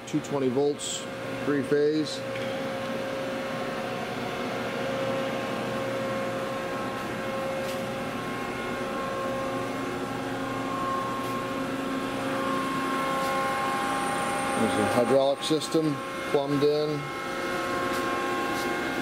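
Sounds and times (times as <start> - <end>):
lathe hydraulic pump humming: 0.0 - 19.0
steady whining tones: 0.0 - 19.0.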